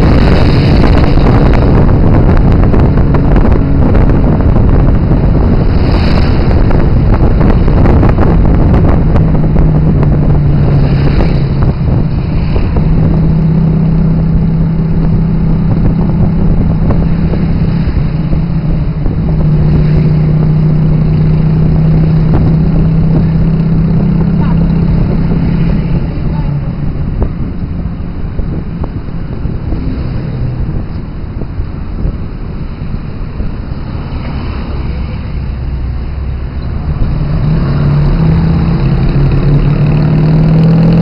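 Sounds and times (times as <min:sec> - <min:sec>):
tuk tuk engine running: 0:00.0 - 0:41.0.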